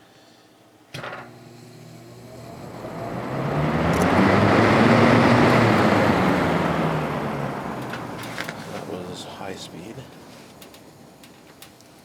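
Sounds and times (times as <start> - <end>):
fan motor hum and whine: 0.0 - 12.0
fan air rush: 1.4 - 12.0.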